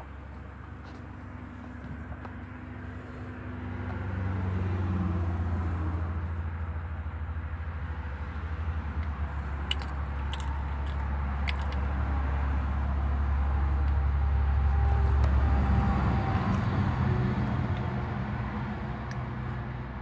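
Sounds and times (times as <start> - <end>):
road traffic rumble: 0.0 - 20.0
vehicle approaching: 0.0 - 20.0.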